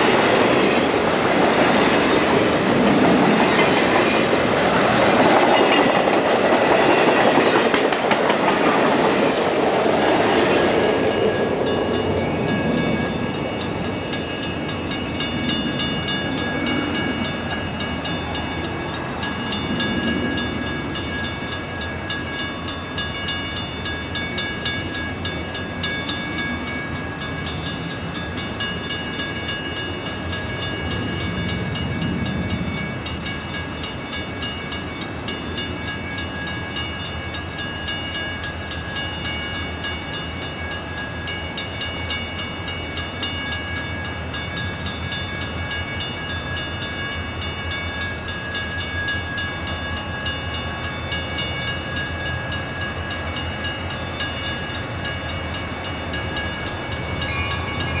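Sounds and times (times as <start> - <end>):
diesel locomotive engines rumbling: 0.0 - 58.0
train wheels rolling on rails: 0.0 - 58.0.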